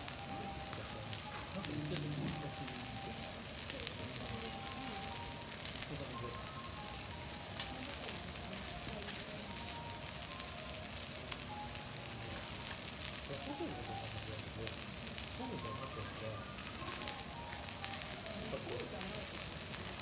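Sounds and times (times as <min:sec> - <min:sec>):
beef sizzling on a griddle: 0:00.0 - 0:20.0.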